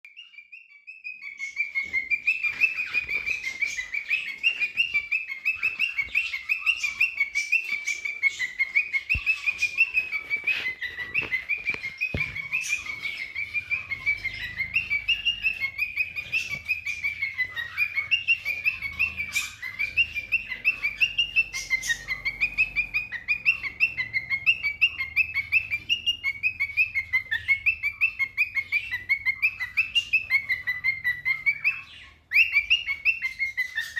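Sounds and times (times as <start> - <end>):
cockatiel whistled chirps: 0.0 - 33.9.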